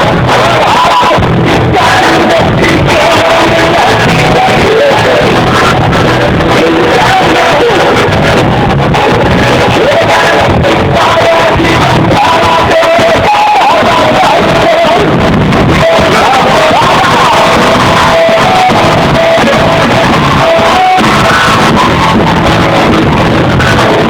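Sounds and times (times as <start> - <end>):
music with singing voice: 0.0 - 24.0.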